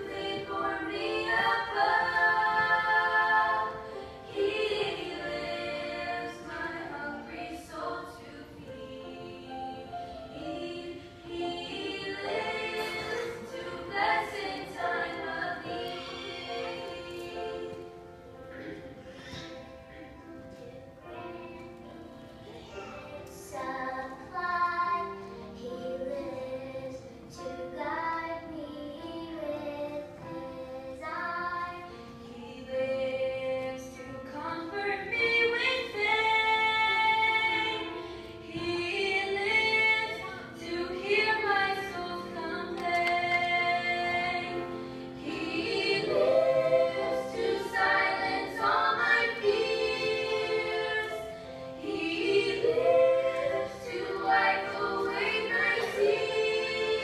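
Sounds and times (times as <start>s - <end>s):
women singing together: 0.0s - 18.8s, 22.7s - 57.0s.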